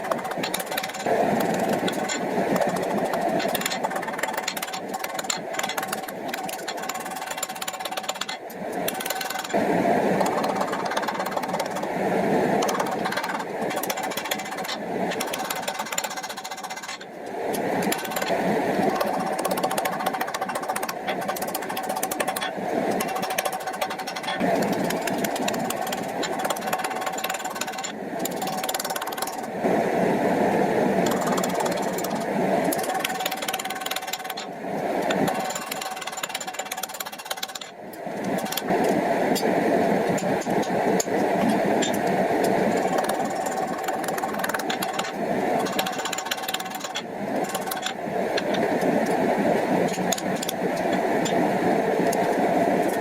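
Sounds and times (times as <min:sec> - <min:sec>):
machine running with rattle: 0:00.0 - 0:09.6, 0:10.2 - 0:11.9, 0:12.6 - 0:17.1, 0:17.8 - 0:29.5, 0:31.0 - 0:39.5, 0:40.1 - 0:48.6
steady rushing noise: 0:00.0 - 0:53.0.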